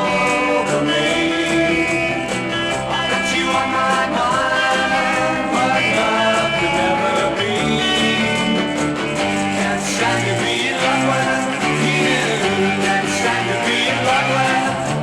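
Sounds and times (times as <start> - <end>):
soul music with full band: 0.0 - 15.0.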